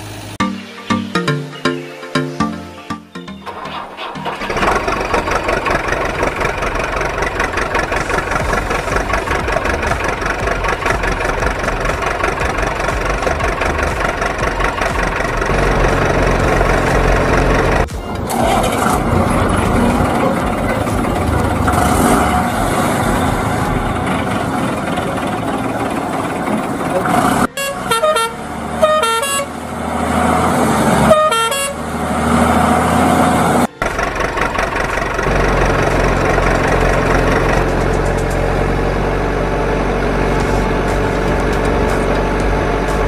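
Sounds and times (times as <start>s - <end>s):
truck engine running: 2.4s - 43.0s
truck horn playing a tune: 6.5s - 25.8s, 27.1s - 43.0s.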